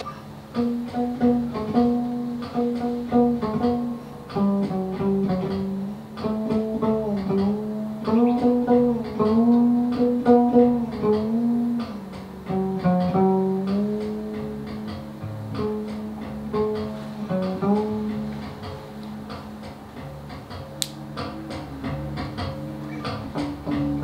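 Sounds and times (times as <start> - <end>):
plucked cello melody: 0.0 - 24.0.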